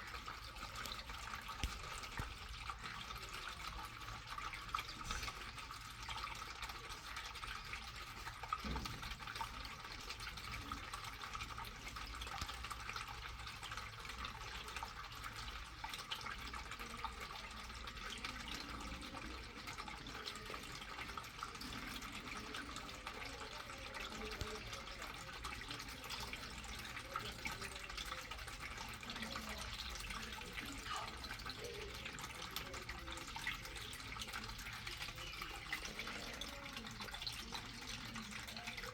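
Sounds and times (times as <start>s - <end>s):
water dripping: 0.0s - 38.9s
water splashing and running: 0.0s - 38.9s.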